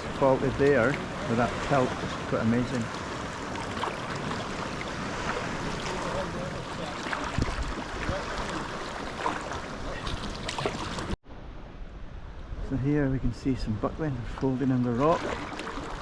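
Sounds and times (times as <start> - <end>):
water splashing around kayak: 0.0 - 11.2, 14.2 - 16.0.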